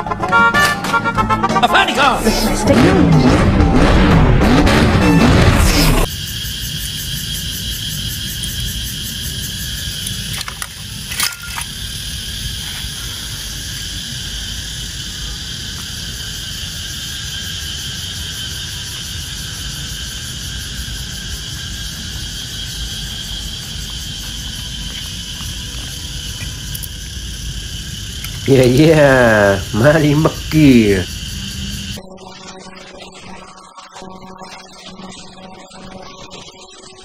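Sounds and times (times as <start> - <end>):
constant high drone: 0.0 - 37.0.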